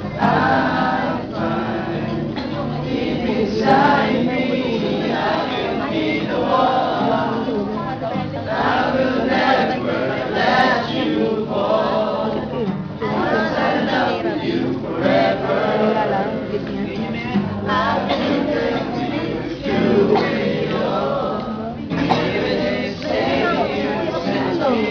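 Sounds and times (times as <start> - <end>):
acoustic guitar: 0.0 - 24.9
group of men singing: 0.0 - 24.9.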